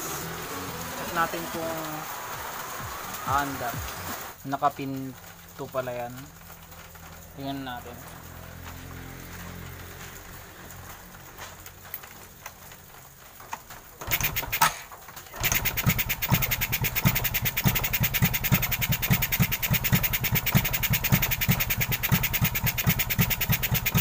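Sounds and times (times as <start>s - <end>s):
motorcycle engine starting and idling: 0.0s - 24.0s.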